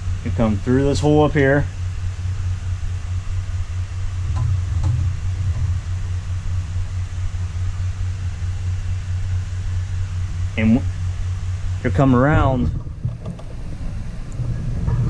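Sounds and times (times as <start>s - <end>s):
electric fan blowing: 0.0s - 15.0s.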